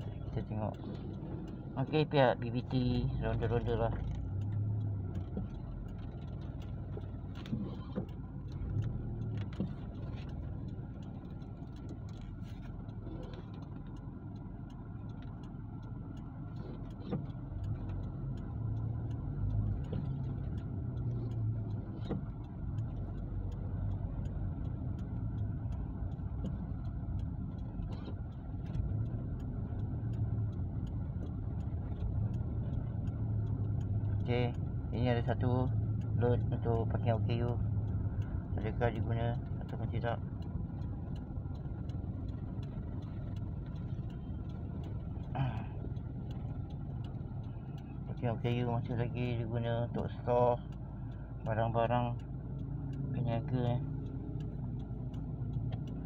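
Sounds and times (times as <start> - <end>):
car engine and tyre rumble: 0.0 - 56.0
faint clicks: 0.0 - 56.0.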